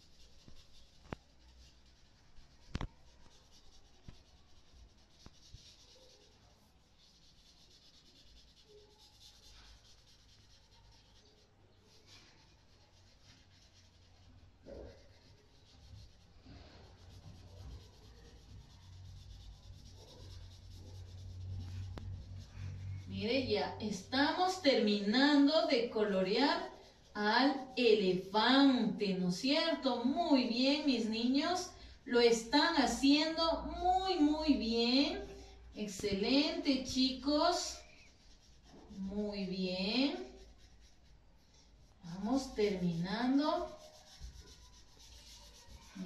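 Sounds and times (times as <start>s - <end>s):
colouring tool scratching paper: 0.0s - 25.8s, 34.5s - 46.0s.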